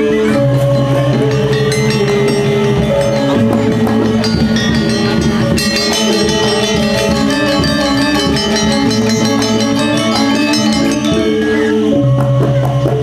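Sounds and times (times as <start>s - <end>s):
drums: 0.0s - 13.0s
steady low gong tones: 0.4s - 11.7s
metallophones ringing quick notes: 0.4s - 12.1s.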